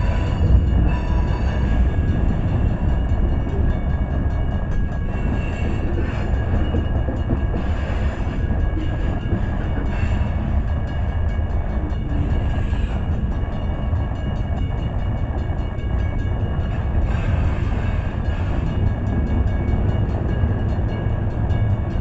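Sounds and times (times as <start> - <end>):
steel train wheels rumbling on rails: 0.0 - 22.0.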